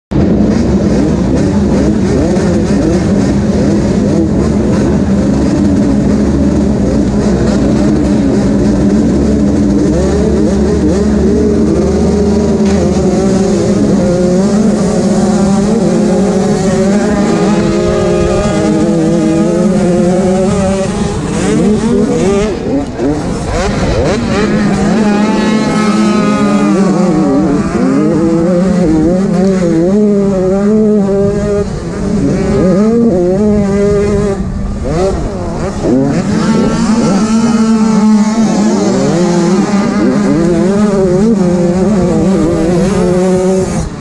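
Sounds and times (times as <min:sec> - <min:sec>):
two-stroke motocross bikes revving: 0:00.1 - 0:44.0.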